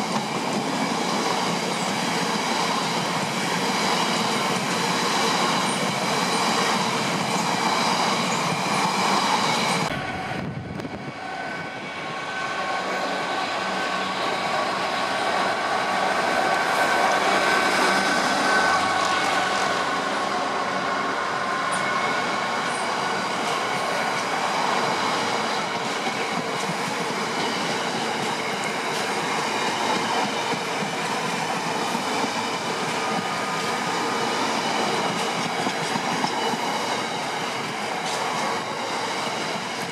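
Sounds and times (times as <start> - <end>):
diesel locomotive passing: 0.0 - 39.9
freight train wheels on rails: 0.0 - 39.9.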